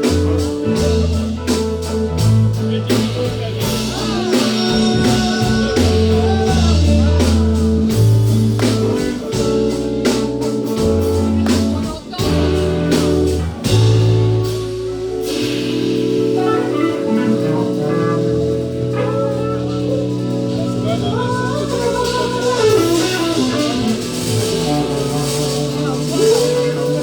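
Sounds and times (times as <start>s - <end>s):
bass line: 0.0s - 27.0s
electric guitar bending notes: 0.0s - 27.0s.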